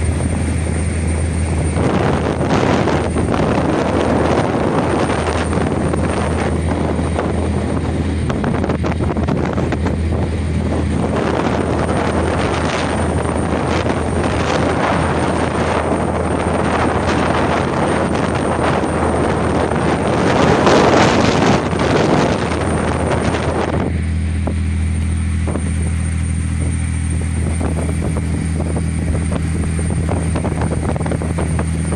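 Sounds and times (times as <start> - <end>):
boat engine hum: 0.0 - 31.9
wind buffeting microphone: 0.0 - 31.9.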